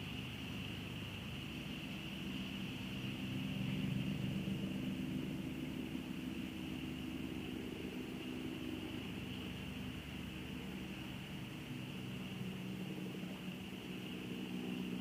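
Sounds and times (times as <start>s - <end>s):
distant engine droning: 0.0s - 15.0s.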